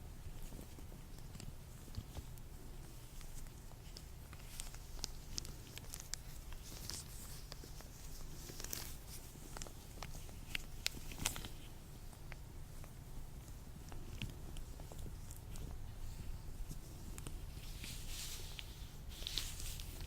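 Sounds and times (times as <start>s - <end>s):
steady low hum: 0.0s - 20.0s
latex gloves crackling and squeaking: 0.3s - 20.0s.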